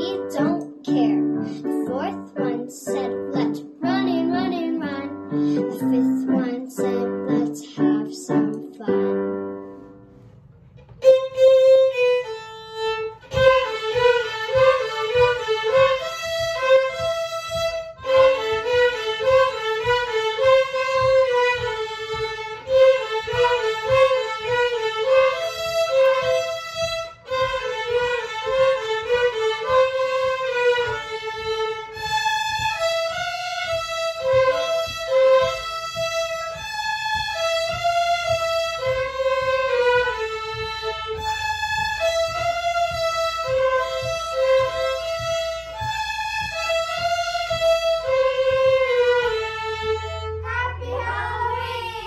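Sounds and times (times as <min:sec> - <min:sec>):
violins playing a melody: 0:00.0 - 0:52.0.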